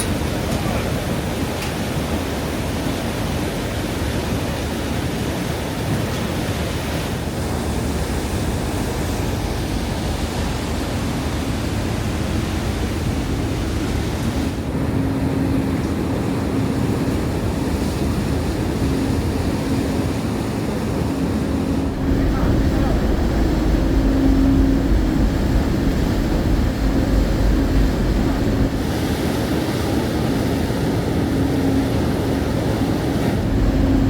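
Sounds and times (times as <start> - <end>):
ferry engines humming: 0.0 - 34.0
wind and sea water rushing: 0.0 - 34.0.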